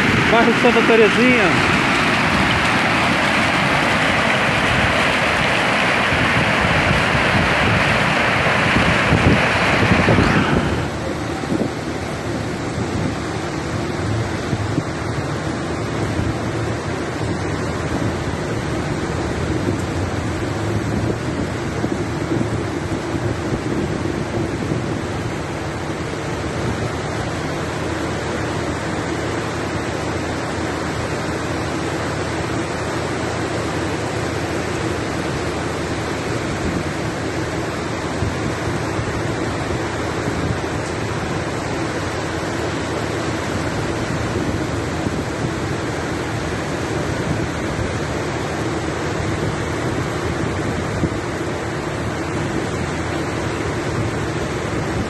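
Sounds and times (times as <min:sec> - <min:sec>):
heavy rain pouring: 0:00.0 - 0:55.0
steady low hum: 0:00.0 - 0:55.0.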